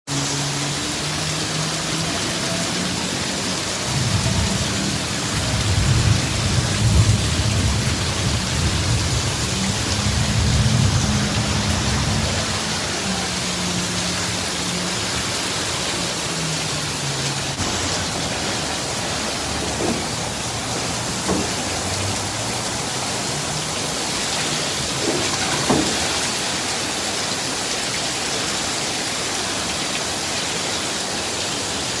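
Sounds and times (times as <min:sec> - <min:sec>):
heavy rain pouring: 0:00.1 - 0:32.0.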